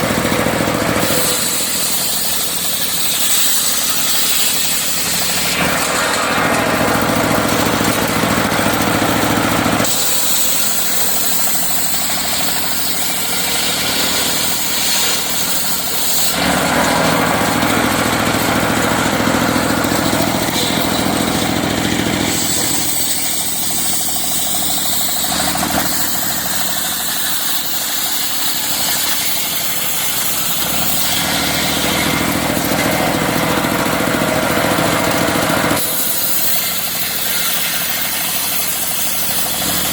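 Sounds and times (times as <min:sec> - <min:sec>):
circular sawmill sawing wood: 0:00.0 - 0:39.9.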